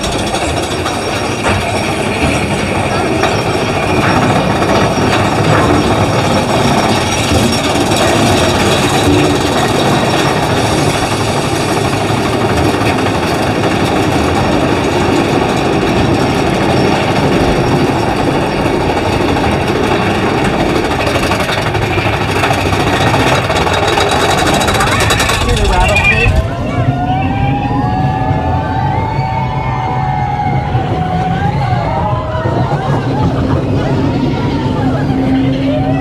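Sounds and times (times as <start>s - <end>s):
roller coaster rumbling on rails: 0.0s - 36.0s.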